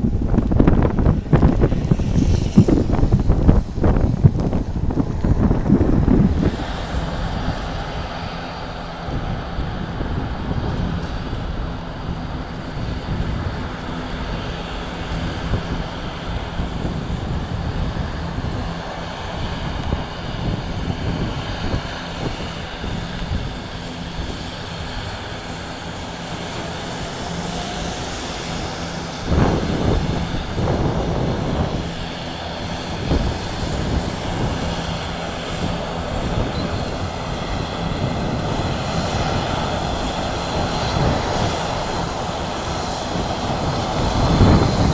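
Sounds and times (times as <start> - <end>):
turboprop engines running: 0.0 - 44.9.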